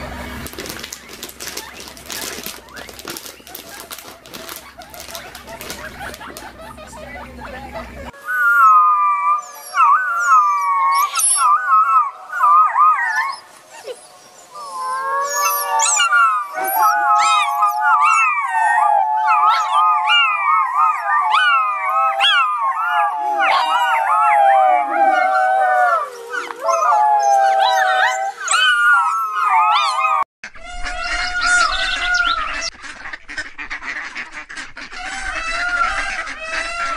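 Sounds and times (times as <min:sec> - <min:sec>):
wolf pups howling: 0:00.7 - 0:32.7.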